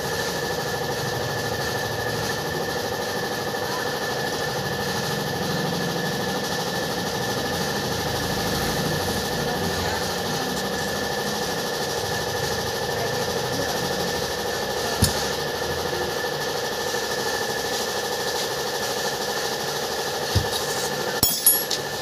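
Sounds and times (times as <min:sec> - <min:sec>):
engine idling with whine: 0:00.0 - 0:22.0.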